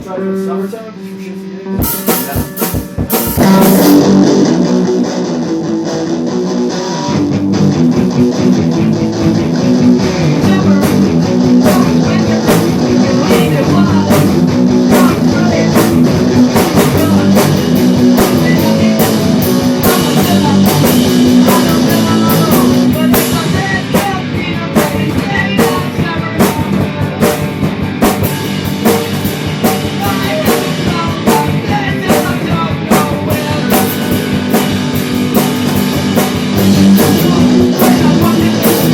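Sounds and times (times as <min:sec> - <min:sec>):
drum kit beat: 0:00.0 - 0:38.9
guitar: 0:00.0 - 0:38.9.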